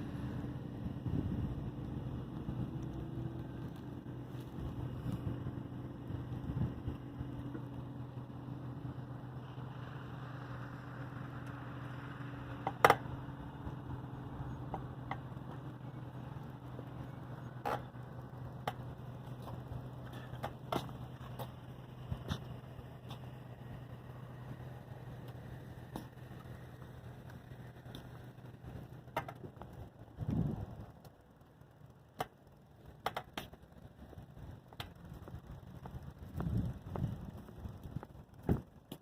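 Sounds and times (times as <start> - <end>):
vehicle running hum: 0.0 - 39.0.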